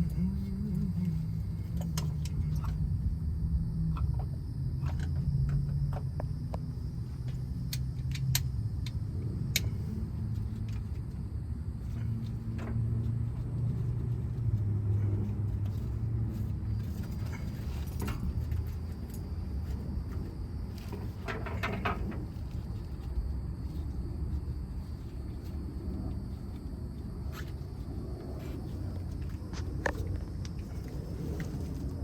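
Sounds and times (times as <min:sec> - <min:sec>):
low vehicle rumble: 0:00.0 - 0:32.0.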